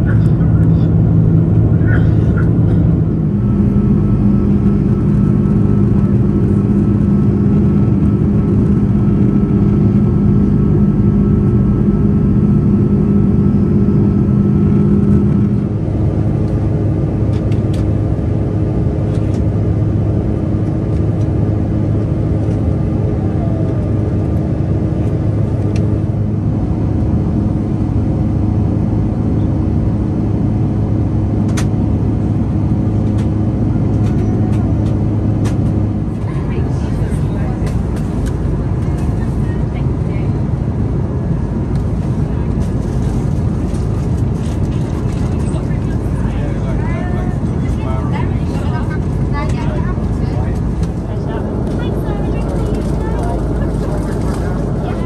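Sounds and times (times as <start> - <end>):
jet engine and airflow drone: 0.0 - 55.0
low hum: 0.0 - 55.0.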